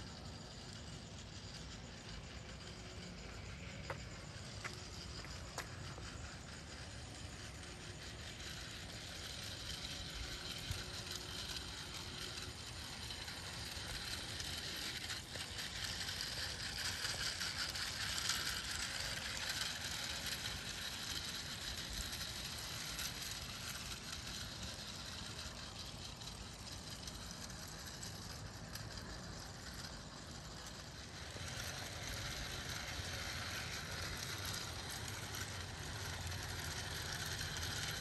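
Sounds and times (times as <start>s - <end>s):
toy train motor whirring: 0.0s - 38.0s.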